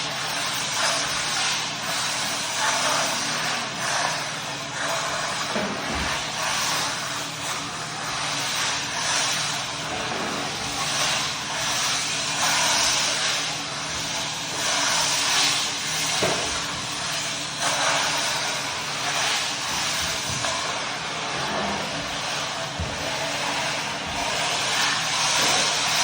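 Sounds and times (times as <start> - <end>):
floor buffing machine swishing: 0.0 - 26.0.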